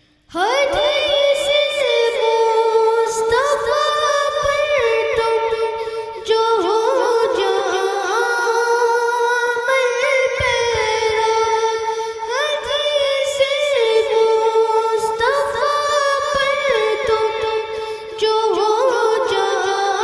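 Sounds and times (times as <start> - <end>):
boy singing unaccompanied: 0.3 - 20.0.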